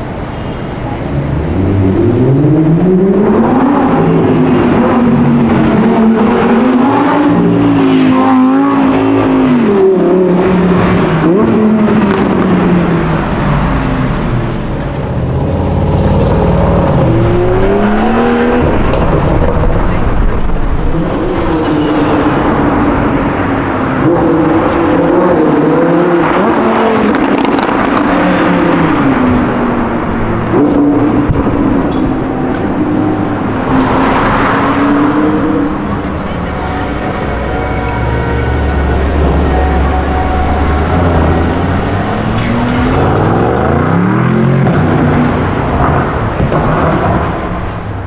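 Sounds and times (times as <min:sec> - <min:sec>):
car engine revving: 0:01.0 - 0:48.0.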